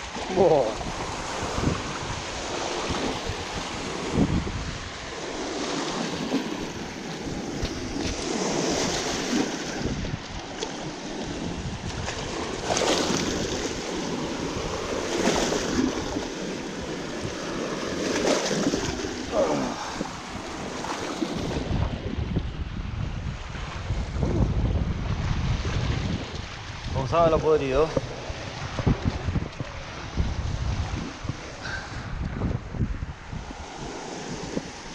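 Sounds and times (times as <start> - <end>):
waves washing at shore: 0.0 - 34.9
wind buffeting microphone: 0.0 - 34.9.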